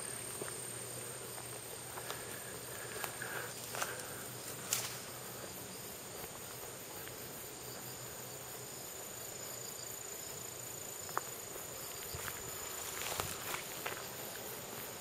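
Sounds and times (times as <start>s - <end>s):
insects calling high-pitched: 0.0s - 15.0s.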